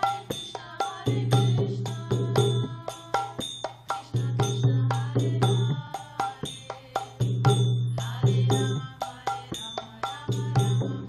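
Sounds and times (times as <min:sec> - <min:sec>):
hand drum ringing strokes: 0:00.0 - 0:11.0.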